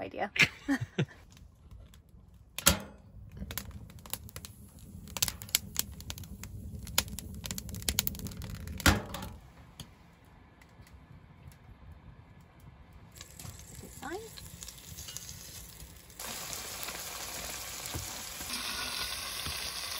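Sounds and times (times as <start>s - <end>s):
low rumble of fire: 0.6s - 19.9s
wood fire crackling: 0.8s - 19.9s.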